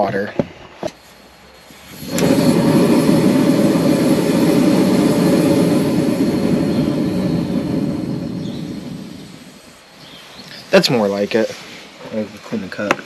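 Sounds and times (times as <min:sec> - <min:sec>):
gas flame roaring: 0:01.0 - 0:12.0.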